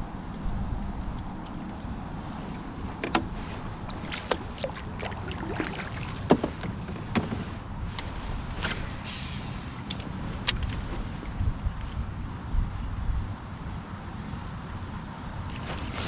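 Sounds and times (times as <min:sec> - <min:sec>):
steady low rumble: 0:00.0 - 0:13.6.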